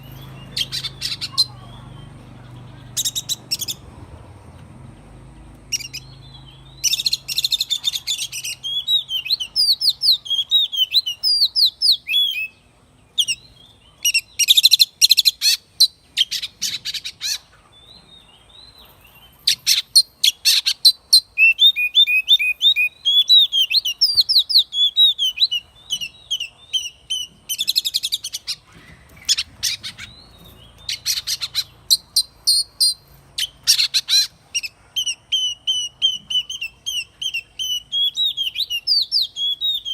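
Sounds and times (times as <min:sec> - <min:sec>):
bird whistling song: 0:00.0 - 0:02.2, 0:02.8 - 0:03.8, 0:05.7 - 0:17.5, 0:18.5 - 0:39.9.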